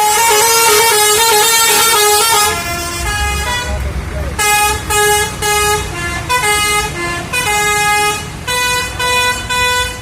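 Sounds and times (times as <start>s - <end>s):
multi-tone horns: 0.0s - 10.0s
low engine rumble: 0.1s - 10.0s.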